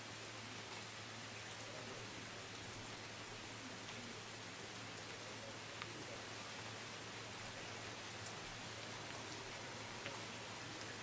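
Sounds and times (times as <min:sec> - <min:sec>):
rain hiss: 0:00.0 - 0:11.0.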